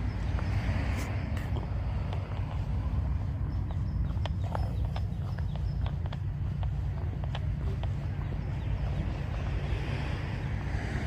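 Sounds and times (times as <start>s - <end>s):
steady low rumble: 0.0s - 11.0s
sharp taps on street: 0.1s - 11.0s.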